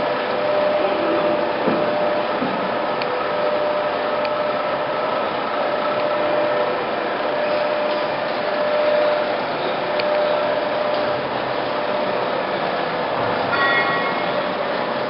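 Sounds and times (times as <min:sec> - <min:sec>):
lathe whirring and whining: 0:00.0 - 0:15.0.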